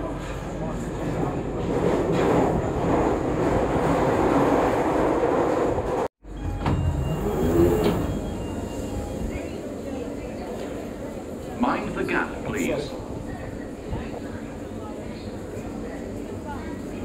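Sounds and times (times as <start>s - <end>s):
underground train rumble and hiss: 0.0s - 3.4s, 5.6s - 17.0s
quiet platform noise: 0.0s - 17.0s.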